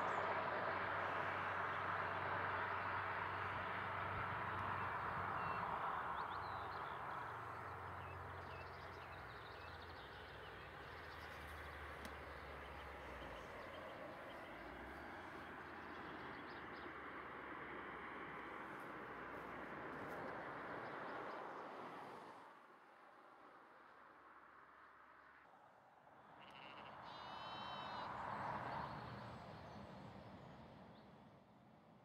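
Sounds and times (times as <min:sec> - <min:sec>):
faint birds chirping: 0:00.0 - 0:21.8, 0:26.3 - 0:31.3
vehicle engine and tyre noise: 0:00.0 - 0:32.0.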